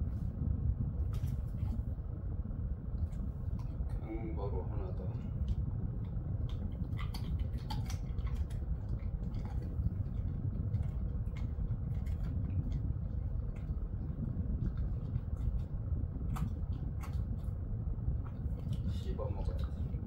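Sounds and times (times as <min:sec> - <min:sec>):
steady low hum: 0:00.0 - 0:20.0
dog crunching treat: 0:03.1 - 0:20.0.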